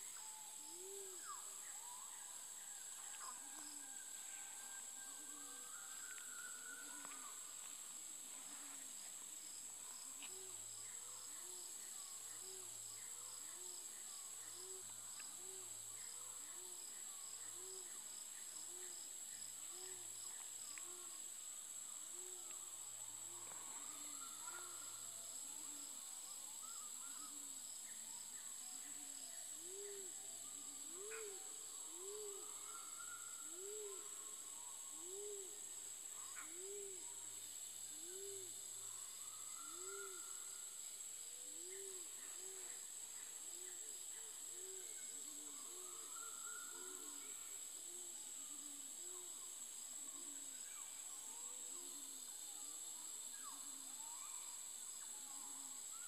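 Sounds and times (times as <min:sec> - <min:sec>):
insect buzz with pulsing trill: 0:00.0 - 0:56.0.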